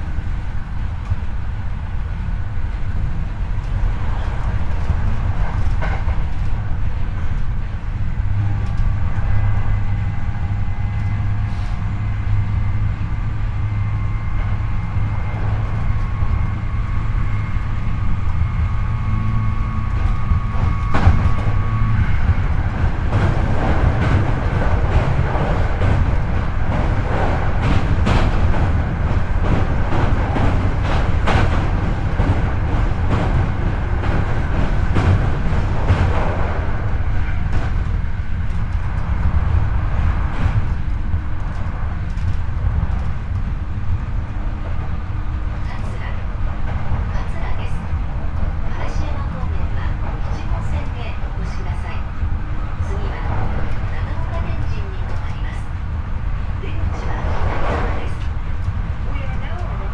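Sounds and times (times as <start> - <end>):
train wheels rumbling on rail: 0.0 - 59.9
rapid clicks over rails: 0.1 - 59.9.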